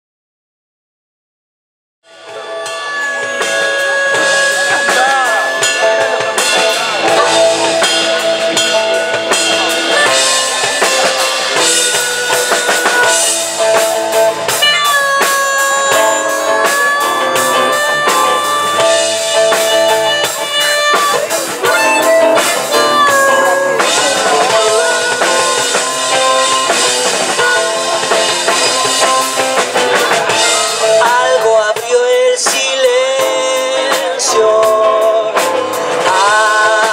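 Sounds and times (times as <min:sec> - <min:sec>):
drum kit: 0:02.1 - 0:36.9
electric and acoustic guitars: 0:02.1 - 0:36.9.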